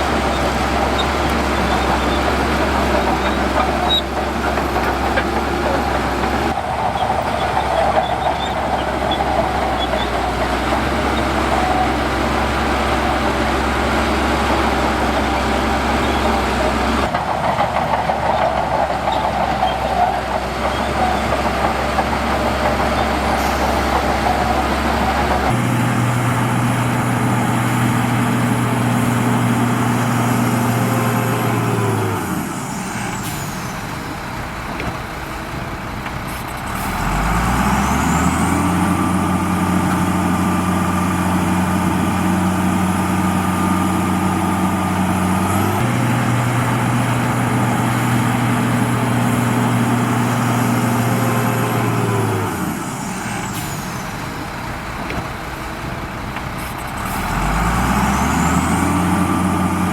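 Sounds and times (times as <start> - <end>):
heavy diesel engine revving: 0.0 - 59.9.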